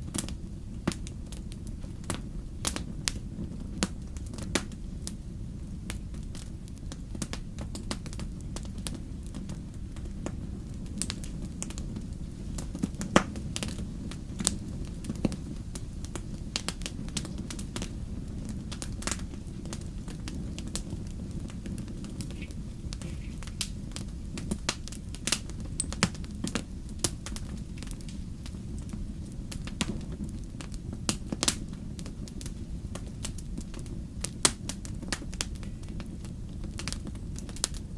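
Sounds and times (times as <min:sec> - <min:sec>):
low rumble of flames: 0:00.0 - 0:37.9
wood fire crackling: 0:00.0 - 0:37.9.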